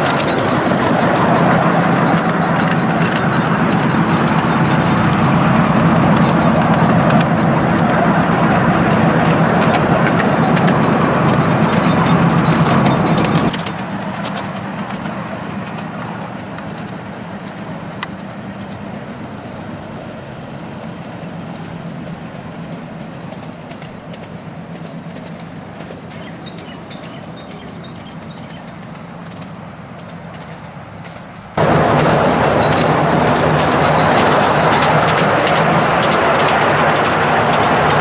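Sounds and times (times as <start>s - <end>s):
miniature train low hum: 0.0s - 38.0s.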